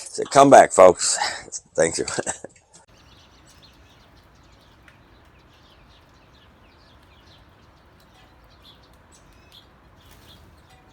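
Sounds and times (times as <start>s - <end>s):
birds chirping: 0.1s - 10.9s.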